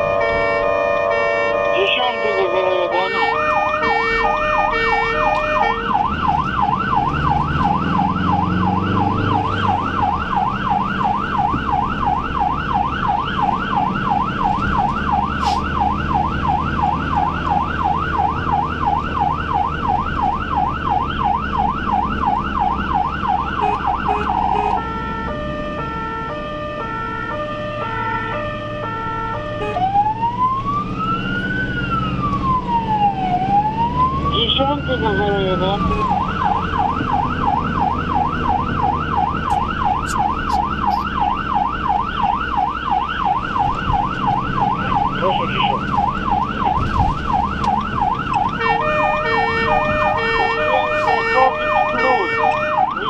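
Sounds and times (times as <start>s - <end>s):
ambulance siren: 0.0s - 53.0s
engine and road noise: 0.0s - 53.0s.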